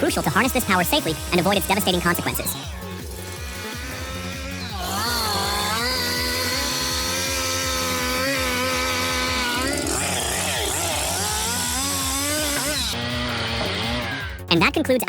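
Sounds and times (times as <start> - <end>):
chainsaw running at high revs: 0.0 - 14.6
background music with steady beat: 0.0 - 15.0.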